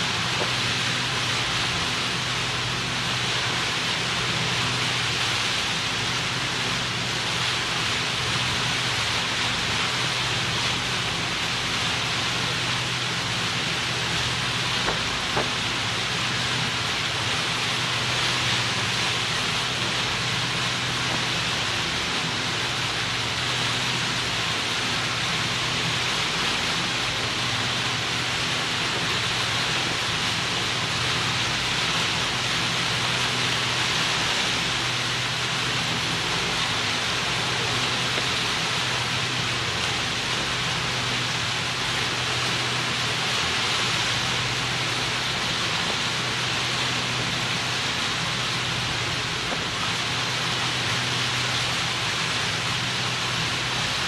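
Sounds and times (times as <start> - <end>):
low engine drone: 0.0 - 54.0
rushing water and spray: 0.0 - 54.0.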